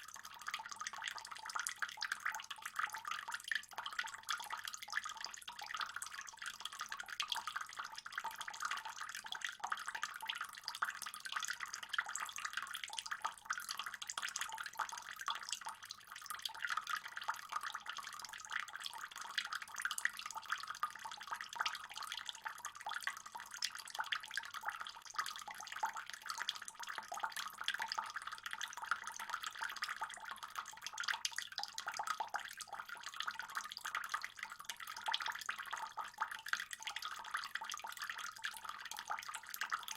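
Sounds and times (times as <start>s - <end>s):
water trickling into a pond: 0.0s - 39.9s.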